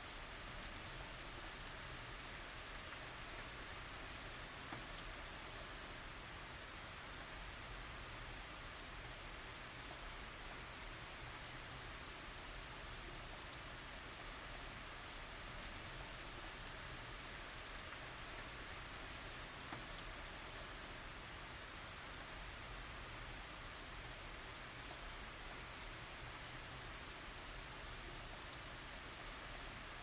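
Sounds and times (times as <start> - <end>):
light rain on surfaces: 0.0 - 30.0.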